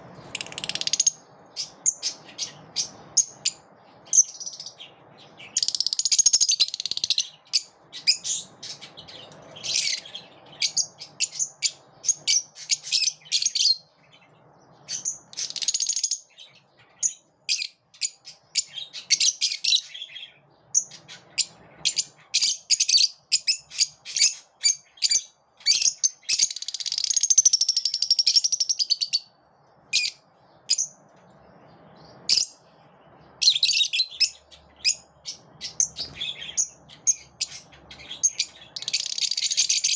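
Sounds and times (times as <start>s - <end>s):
lovebirds chirping and chattering: 0.0s - 39.9s.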